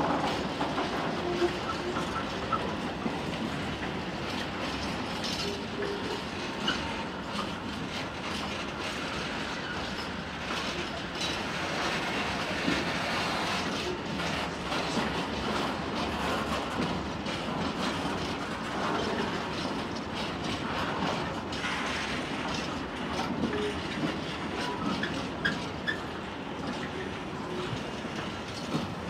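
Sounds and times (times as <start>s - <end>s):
train wheels rumbling on rail: 0.0s - 29.0s
wheels clicking over rail joints: 0.0s - 29.0s.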